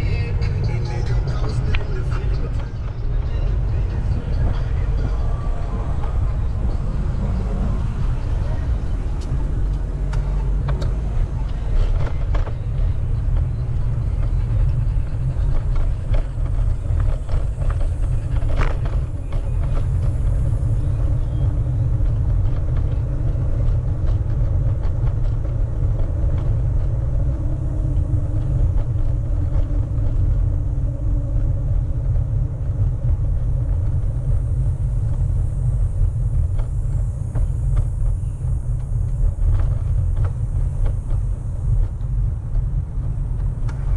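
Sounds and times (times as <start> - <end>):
faint traffic: 0.0 - 43.9
wind buffeting microphone: 0.0 - 43.9.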